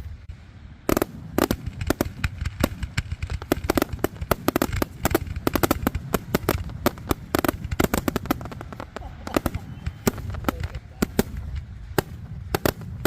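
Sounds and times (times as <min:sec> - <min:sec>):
fireworks crackling pops: 0:00.0 - 0:13.0.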